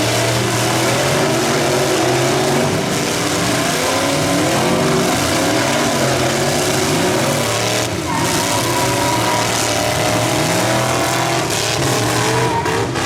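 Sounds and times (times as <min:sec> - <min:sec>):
truck engines revving: 0:00.0 - 0:13.0.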